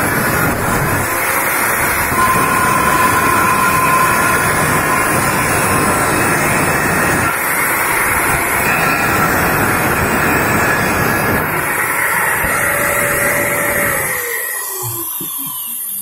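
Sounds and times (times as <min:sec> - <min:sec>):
angle grinder cutting metal: 0:00.0 - 0:16.0.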